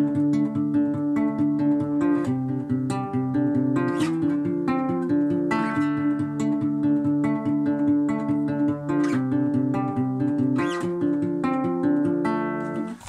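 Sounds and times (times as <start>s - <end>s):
fingerpicked classical guitar arpeggio: 0.0s - 13.0s.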